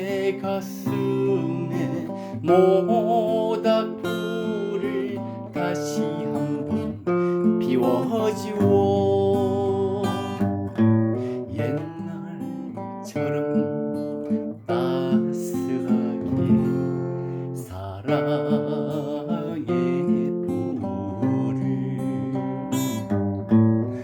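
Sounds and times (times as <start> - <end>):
strummed acoustic guitar ballad: 0.0 - 24.0.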